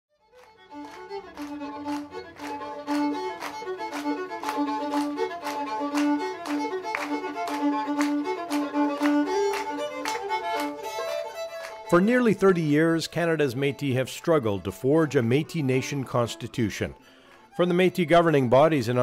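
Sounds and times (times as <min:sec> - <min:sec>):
fiddle playing fast tune: 0:00.1 - 0:19.0.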